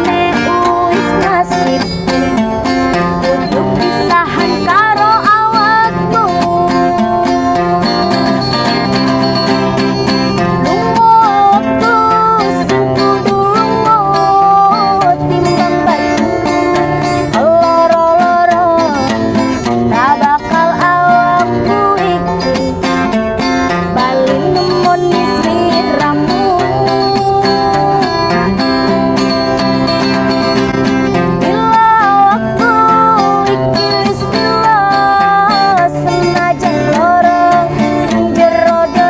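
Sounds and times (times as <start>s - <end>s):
woman singing: 0.0s - 29.4s, 31.3s - 39.0s
acoustic guitar strumming: 0.0s - 39.0s.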